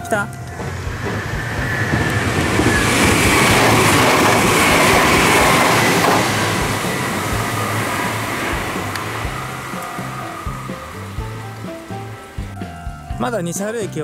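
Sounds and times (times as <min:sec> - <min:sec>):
faint whine: 0:00.0 - 0:13.2
train wheels rumbling on rails: 0:00.0 - 0:13.4.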